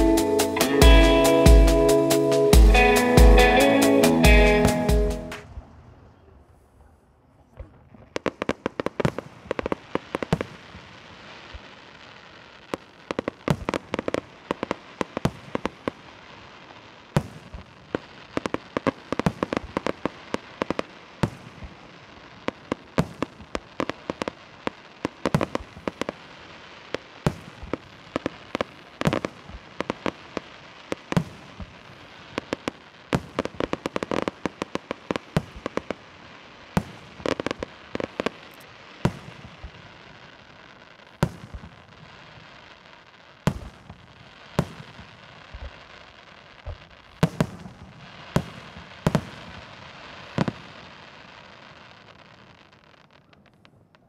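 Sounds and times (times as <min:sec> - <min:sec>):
fireworks crackle: 0:00.0 - 0:06.7, 0:07.4 - 0:54.0
fireworks bangs: 0:00.0 - 0:54.0.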